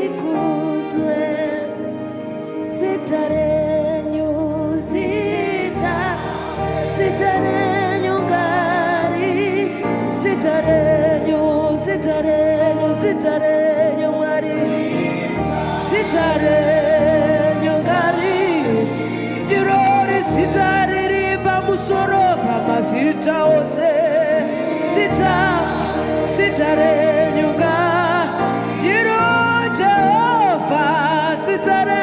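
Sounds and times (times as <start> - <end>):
person singing with vibrato: 0.0 - 32.0.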